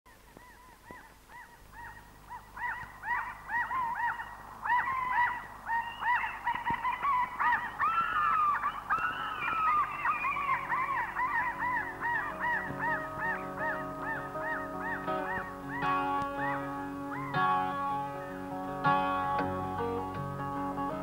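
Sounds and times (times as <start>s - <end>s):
seabirds calling: 0.1s - 21.0s.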